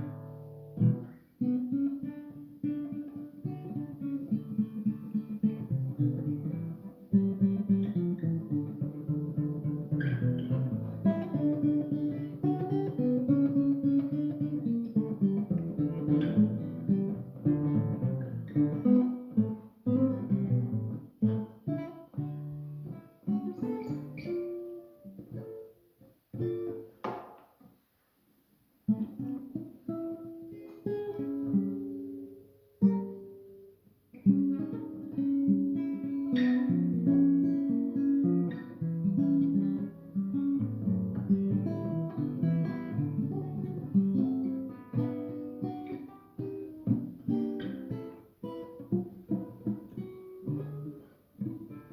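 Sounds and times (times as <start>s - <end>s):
guitar plucked notes: 0.0s - 27.4s, 28.9s - 51.9s.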